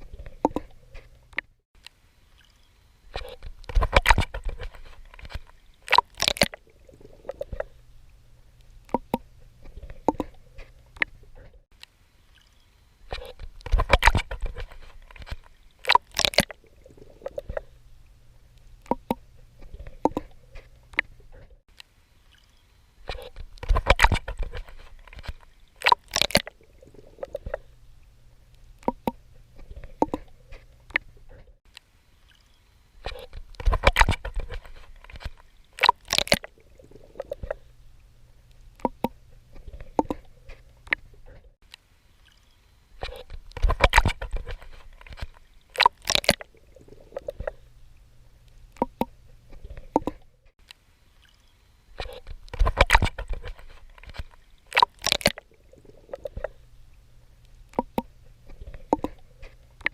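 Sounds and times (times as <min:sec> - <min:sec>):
soft water gurgling: 0:00.0 - 0:59.9.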